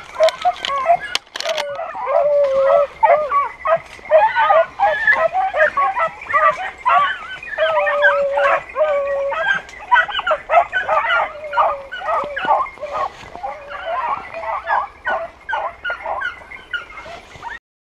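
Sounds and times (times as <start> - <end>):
dogs howling: 0.0 - 17.6
dogs yelping barks: 0.0 - 17.6.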